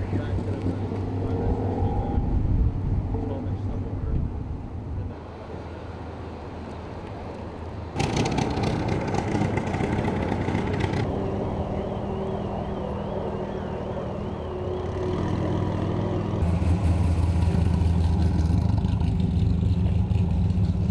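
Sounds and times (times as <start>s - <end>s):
car engines running: 0.0s - 20.9s.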